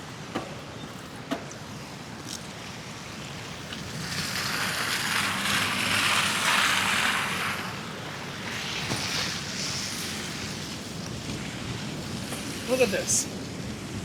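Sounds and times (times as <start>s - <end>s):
tyres hissing on wet road: 1.5s - 14.0s.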